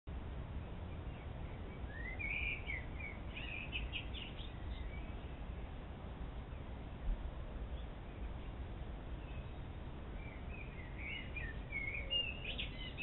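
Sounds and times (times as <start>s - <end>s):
low background rumble: 0.1s - 13.0s
songbird chirping: 0.1s - 13.0s.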